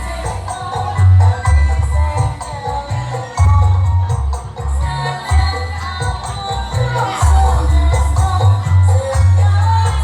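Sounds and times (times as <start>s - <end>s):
jingling percussion: 0.0s - 10.0s
music with strong bass: 0.0s - 10.0s.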